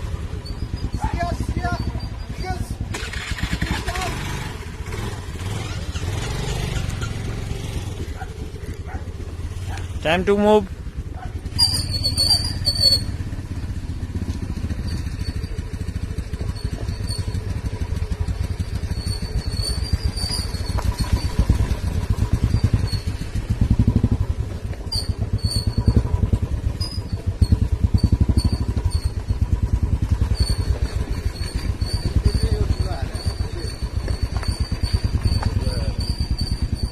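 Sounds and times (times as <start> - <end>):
vehicle engine rumbling: 0.0 - 36.9.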